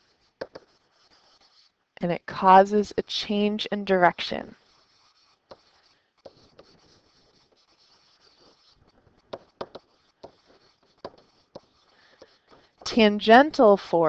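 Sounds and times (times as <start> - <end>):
stylus scratching: 0.0 - 13.8.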